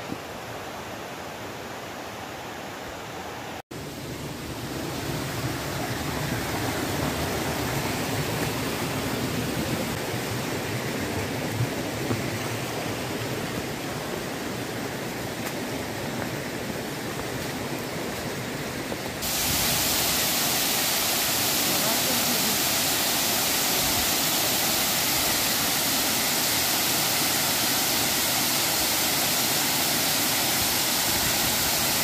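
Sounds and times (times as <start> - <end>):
waterfall rushing: 3.1 - 32.0.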